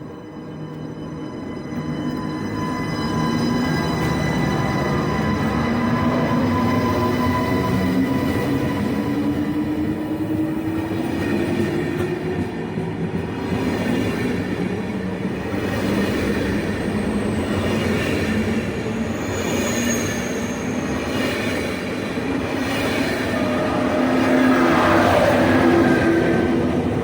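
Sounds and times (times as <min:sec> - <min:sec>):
train wheels rumbling on rails: 0:01.8 - 0:27.0.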